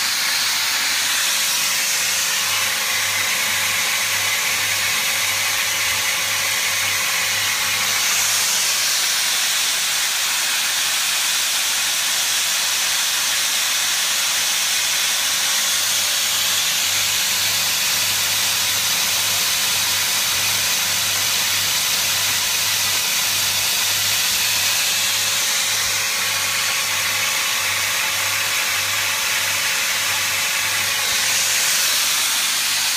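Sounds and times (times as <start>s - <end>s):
steady loud hiss: 0.0s - 32.9s.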